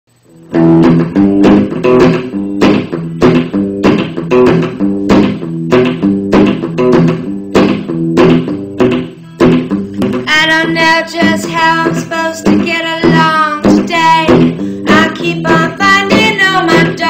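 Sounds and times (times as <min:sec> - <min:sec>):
strummed guitar chords: 0:00.1 - 0:17.0.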